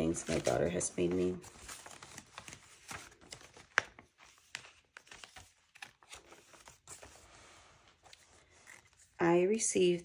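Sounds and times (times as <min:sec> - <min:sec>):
paper rustling and crinkling: 0:00.0 - 0:09.2.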